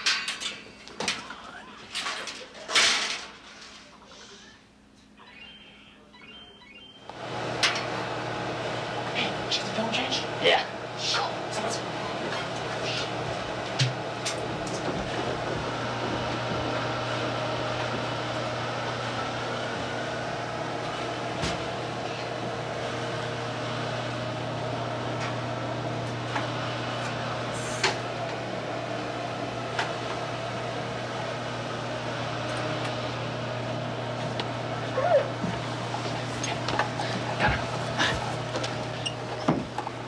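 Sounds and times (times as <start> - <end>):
machinery humming: 4.1 - 40.0.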